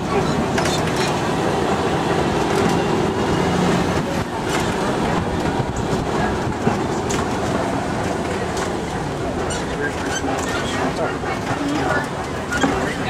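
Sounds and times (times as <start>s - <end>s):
truck rumbling on dirt track: 0.0s - 13.0s
vehicle rattles and knocks: 0.0s - 13.0s.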